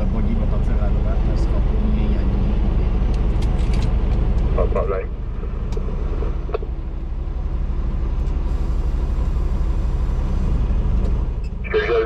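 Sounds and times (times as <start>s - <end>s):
truck diesel engine rumbling: 0.0s - 12.0s.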